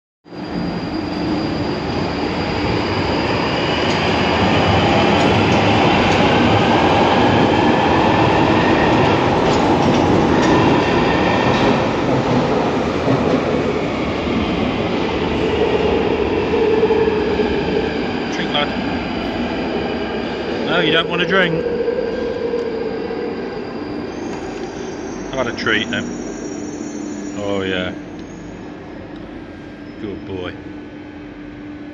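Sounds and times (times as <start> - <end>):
underground train rumble: 0.2 - 31.9.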